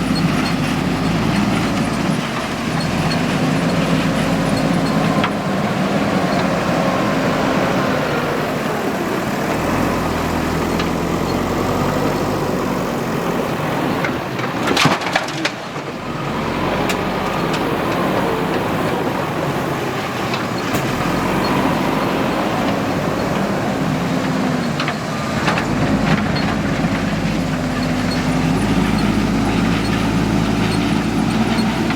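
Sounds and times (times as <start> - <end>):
diesel engine running under load: 0.0 - 31.9.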